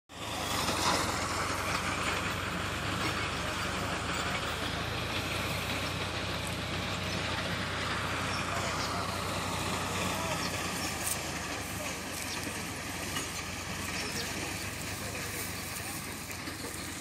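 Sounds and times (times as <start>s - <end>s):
engine running steadily: 0.1s - 17.0s.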